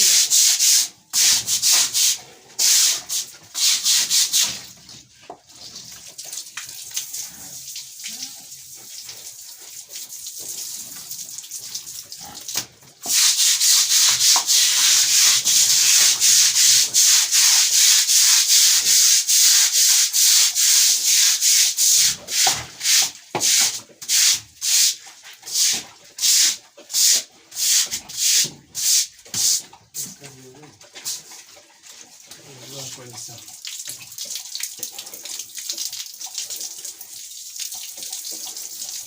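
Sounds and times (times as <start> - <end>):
stiff brush scrubbing wet floor: 0.0 - 11.2, 12.2 - 33.5.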